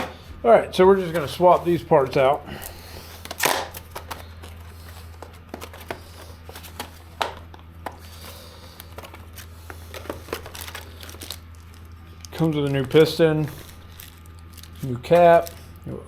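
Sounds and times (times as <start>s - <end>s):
steady low hum: 0.0s - 16.0s
plastic packaging rustling: 0.9s - 15.8s.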